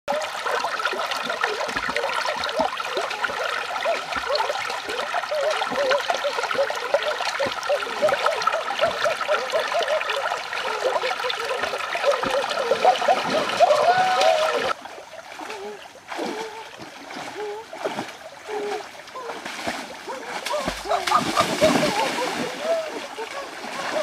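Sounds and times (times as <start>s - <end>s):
people wading through water: 0.1s - 24.0s
stream bubbling over rocks: 0.1s - 24.0s.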